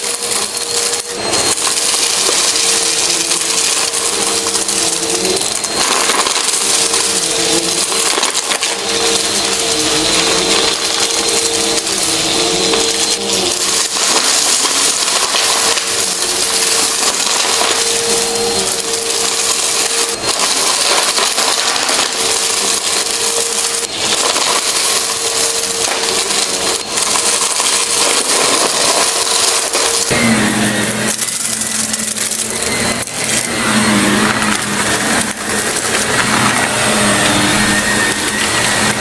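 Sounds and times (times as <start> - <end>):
debris rattling up vacuum nozzle: 0.0 - 39.0
vacuum cleaner motor whine: 0.0 - 39.0.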